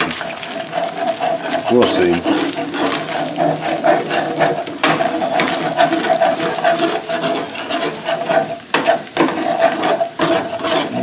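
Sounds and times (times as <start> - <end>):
frying sizzle: 0.0 - 11.0
metal tongs scraping a pan: 0.0 - 11.0.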